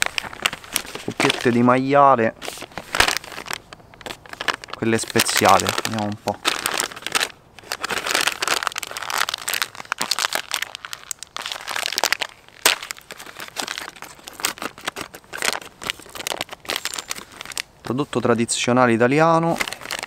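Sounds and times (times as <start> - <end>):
snack packet crinkling: 0.0 - 17.9, 19.4 - 20.0.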